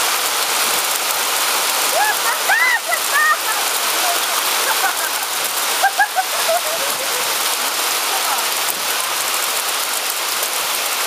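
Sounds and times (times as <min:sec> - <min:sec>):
hailstones pattering: 0:00.0 - 0:11.0.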